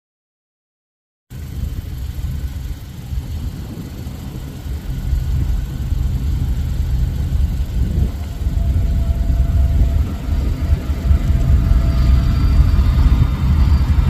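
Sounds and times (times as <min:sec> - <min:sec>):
diesel locomotives rumbling: 0:01.3 - 0:14.0.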